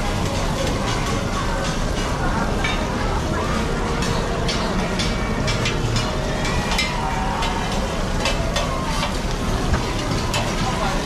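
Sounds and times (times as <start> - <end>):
busy market bustle: 0.0 - 11.0.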